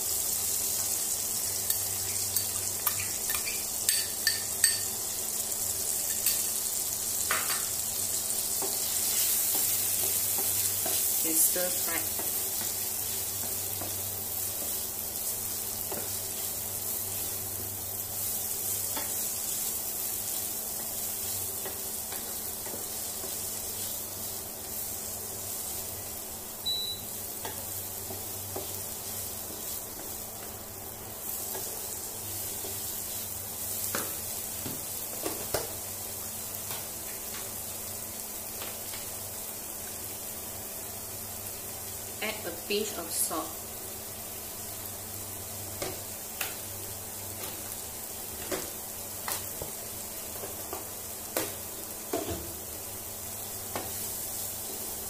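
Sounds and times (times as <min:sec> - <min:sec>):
onion and garlic sizzling: 0:00.0 - 0:55.0.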